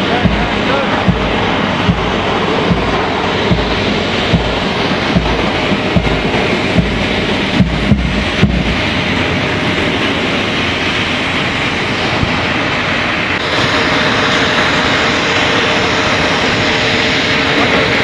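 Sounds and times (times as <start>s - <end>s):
faint steady whine: 0.0s - 18.0s
jet engines roaring: 0.0s - 18.0s.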